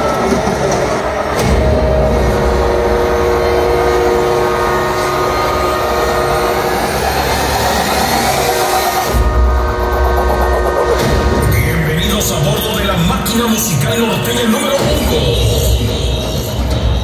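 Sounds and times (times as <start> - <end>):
train rumble over loudspeakers: 0.0 - 17.0.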